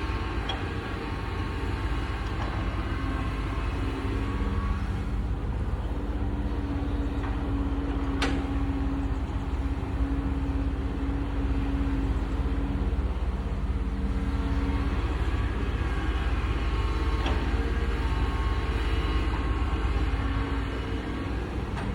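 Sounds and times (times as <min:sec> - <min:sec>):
excavator running under load: 0:00.0 - 0:21.9.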